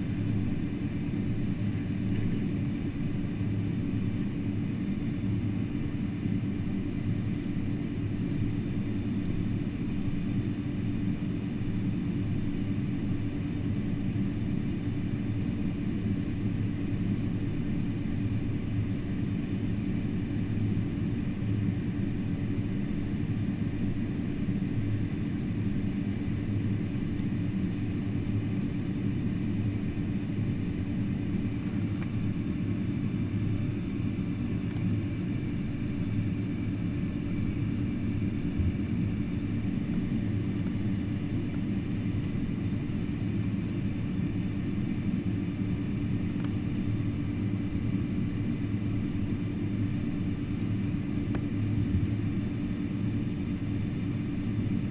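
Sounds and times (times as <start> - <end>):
airplane cabin rumble and hum: 0.0 - 54.9.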